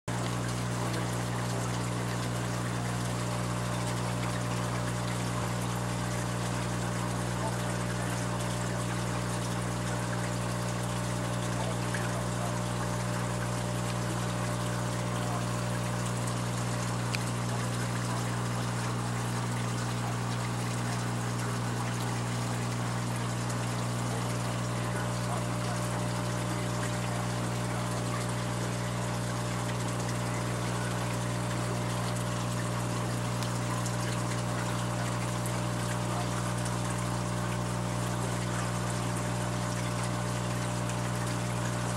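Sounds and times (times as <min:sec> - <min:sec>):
low pump hum: 0:00.1 - 0:41.9
water trickling: 0:00.1 - 0:41.9.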